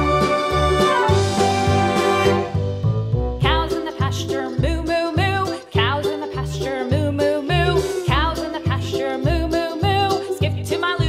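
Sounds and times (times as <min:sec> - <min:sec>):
light background music tune: 0:00.0 - 0:11.0.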